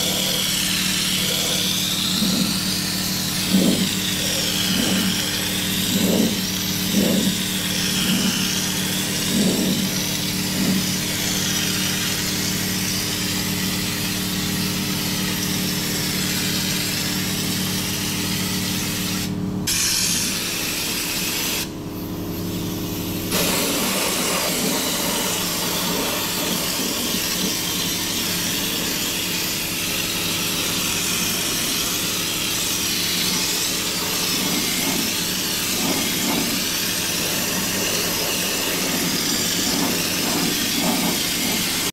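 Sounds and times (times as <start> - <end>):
air compressor humming: 0.0 - 41.9
spray gun hissing: 0.0 - 41.9.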